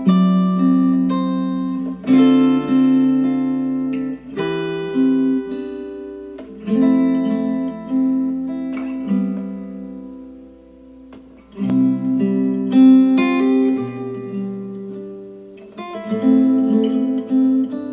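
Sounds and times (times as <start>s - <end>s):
acoustic guitar strummed chords: 0.0s - 17.9s.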